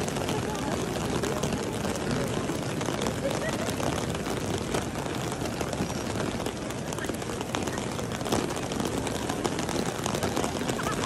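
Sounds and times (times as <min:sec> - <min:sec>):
rain on stone courtyard: 0:00.0 - 0:11.0.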